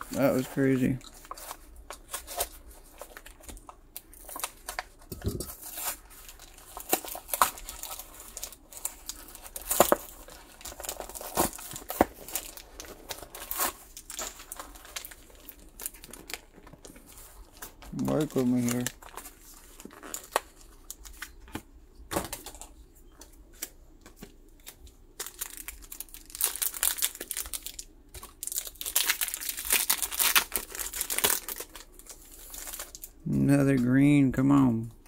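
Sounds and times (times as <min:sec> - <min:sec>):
card packaging crinkling and tearing: 0:00.0 - 0:33.9.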